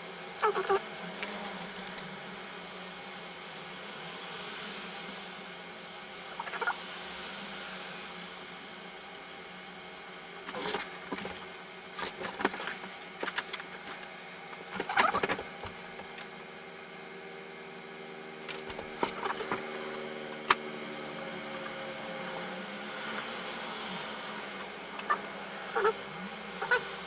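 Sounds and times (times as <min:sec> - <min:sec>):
steady multi-tone hum: 0:00.0 - 0:27.0.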